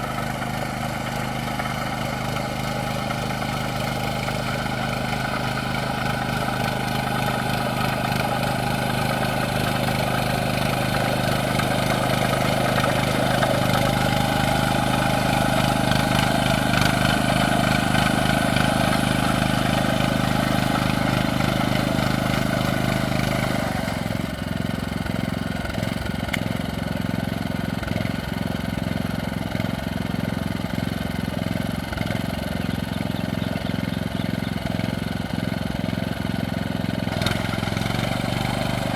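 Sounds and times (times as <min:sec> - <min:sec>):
machine engine running: 0:00.0 - 0:25.8, 0:31.4 - 0:38.9.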